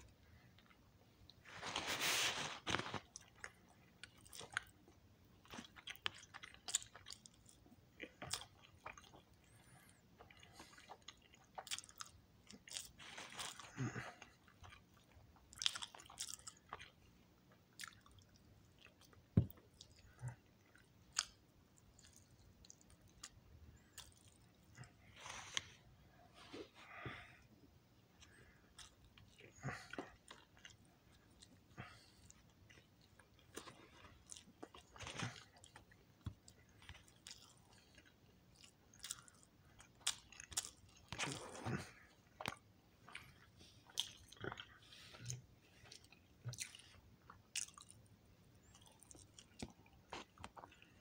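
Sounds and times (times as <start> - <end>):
person chewing food: 0.0 - 51.0.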